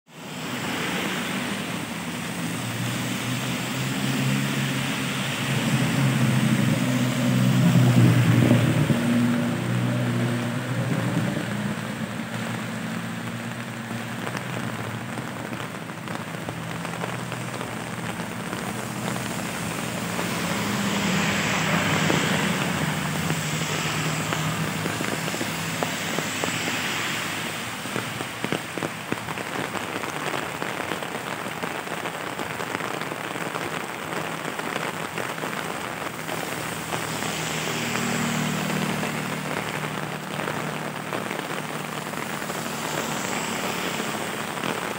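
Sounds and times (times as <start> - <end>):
rain on pavement: 0.1 - 44.9
vehicles passing on wet road: 0.1 - 44.9.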